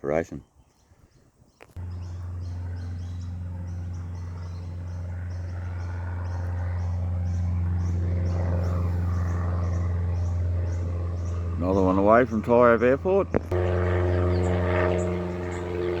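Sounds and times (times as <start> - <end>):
light aircraft engine droning: 1.8 - 16.0.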